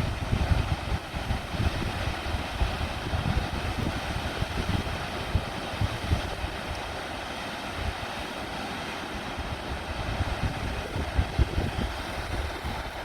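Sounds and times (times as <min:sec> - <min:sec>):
wind buffeting microphone: 0:00.0 - 0:07.0, 0:09.4 - 0:13.0
waterfall rushing: 0:00.0 - 0:13.0.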